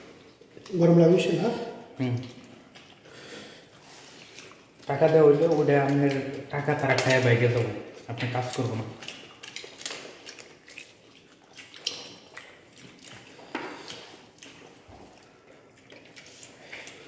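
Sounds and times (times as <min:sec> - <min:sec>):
chewing: 0:00.0 - 0:17.0
people eating with fingers: 0:00.0 - 0:17.0.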